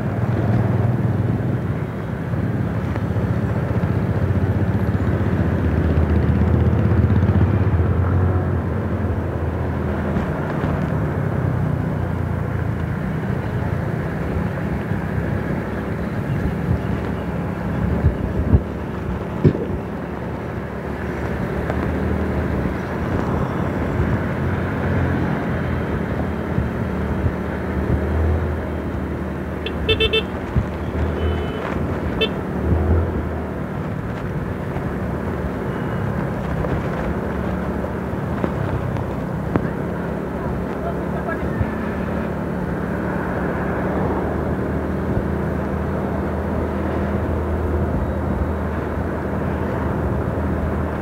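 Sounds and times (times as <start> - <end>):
vehicle engine and road noise: 0.0 - 51.0.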